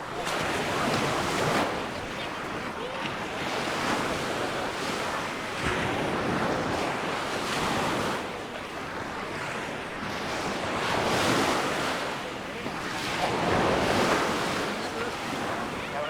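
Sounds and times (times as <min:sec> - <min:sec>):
sea waves breaking on beach: 0:00.0 - 0:16.0
wind buffeting microphone: 0:00.0 - 0:16.0.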